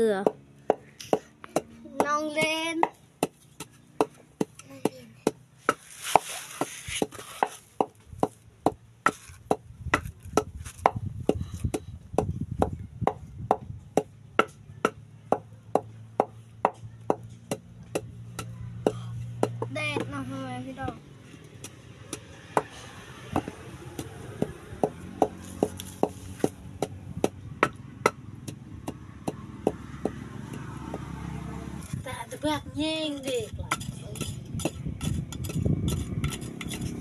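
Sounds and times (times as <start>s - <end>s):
wooden pestle pounding in mortar: 0.2s - 20.2s, 23.3s - 31.1s, 33.2s - 37.0s.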